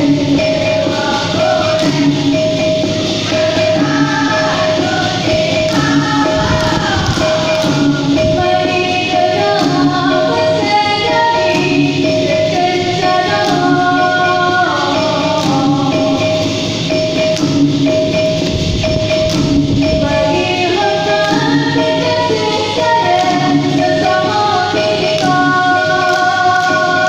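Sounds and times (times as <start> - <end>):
woman singing through microphone: 0.0 - 2.5, 3.2 - 16.5, 20.0 - 27.0
tambourine-like percussion: 0.0 - 27.0.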